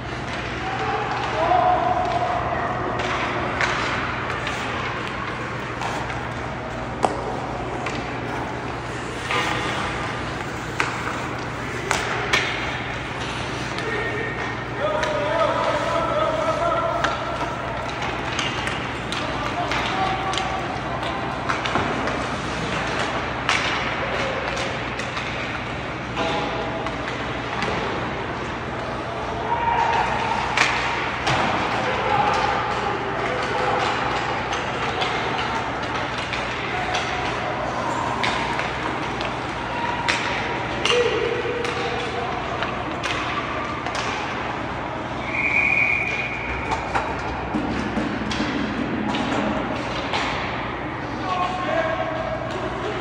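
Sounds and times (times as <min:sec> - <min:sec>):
hockey sticks and puck clicking: 0:00.0 - 0:53.0
ice rink noise: 0:00.0 - 0:53.0.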